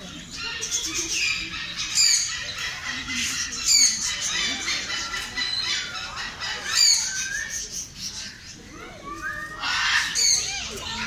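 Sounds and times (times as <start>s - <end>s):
budgerigars chattering and warbling: 0.0s - 8.7s, 9.6s - 11.0s
loud sharp bird chirps: 0.4s - 10.5s.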